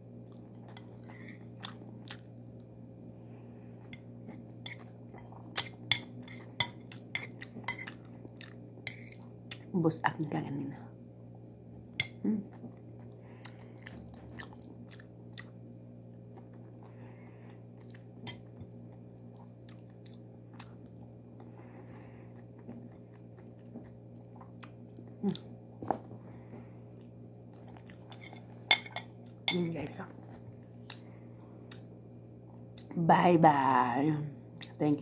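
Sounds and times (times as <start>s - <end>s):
steady low hum: 0.0s - 35.0s
person chewing wet food: 0.1s - 3.1s, 3.7s - 9.7s, 10.9s - 25.8s, 26.4s - 29.5s, 30.2s - 31.9s.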